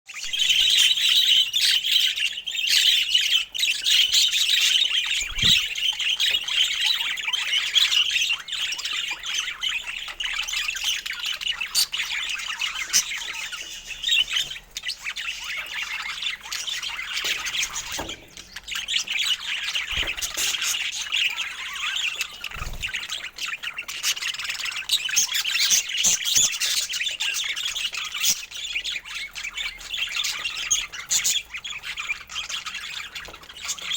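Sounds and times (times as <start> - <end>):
budgerigars chattering: 0.2 - 33.9.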